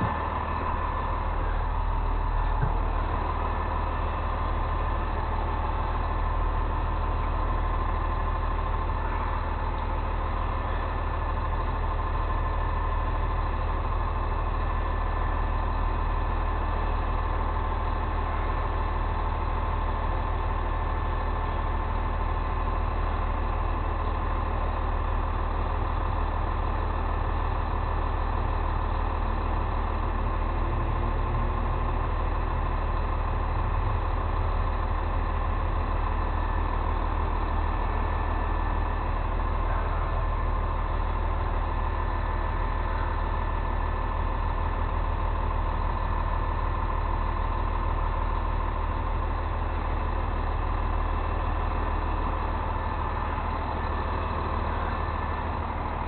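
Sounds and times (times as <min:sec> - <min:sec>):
heavy truck engine drone: 0:00.0 - 0:56.0.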